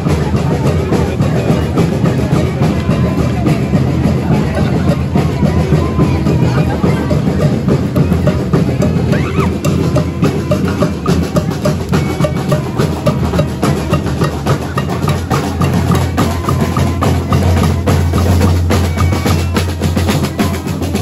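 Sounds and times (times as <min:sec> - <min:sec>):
bass drum: 0:00.0 - 0:21.0
snare drums: 0:00.0 - 0:21.0.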